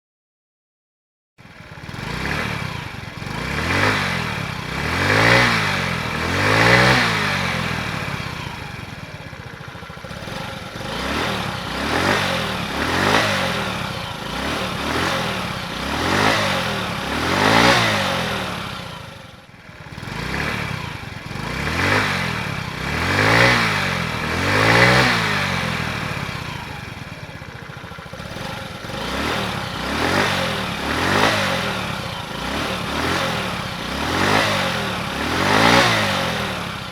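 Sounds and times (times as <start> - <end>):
scooter engine revving: 1.4 - 36.9.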